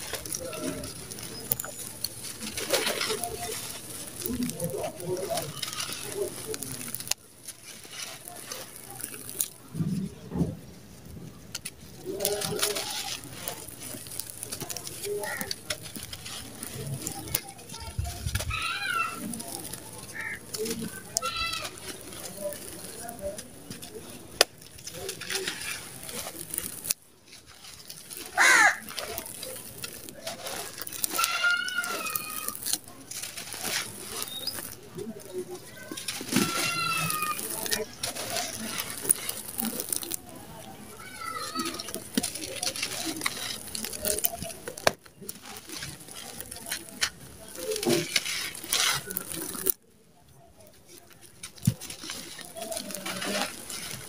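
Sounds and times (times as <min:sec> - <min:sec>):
lump snapping: 0:00.0 - 0:10.0, 0:11.5 - 0:49.8
sand-cement clumps crumbling in hands: 0:00.0 - 0:54.0.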